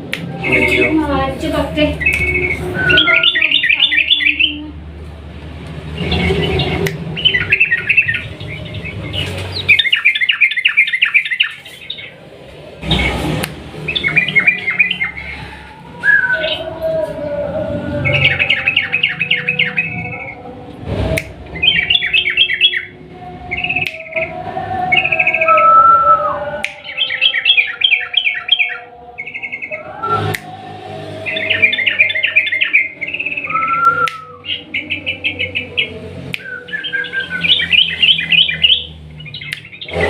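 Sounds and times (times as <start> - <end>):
bulbul chattering song: 0.0 - 4.9, 5.8 - 40.0.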